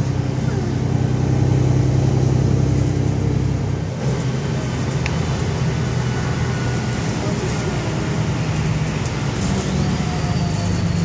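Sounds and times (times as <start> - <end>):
loud bus diesel engine running: 0.0 - 11.0.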